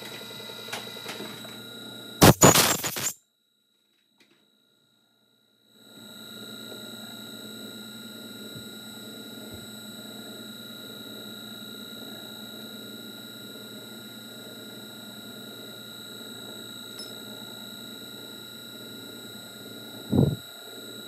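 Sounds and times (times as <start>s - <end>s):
metal lathe cutting whine: 0.0s - 3.0s, 5.9s - 21.0s.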